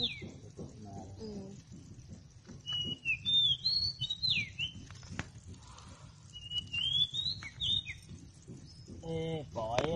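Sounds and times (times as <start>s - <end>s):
songbird singing: 0.0s - 9.9s.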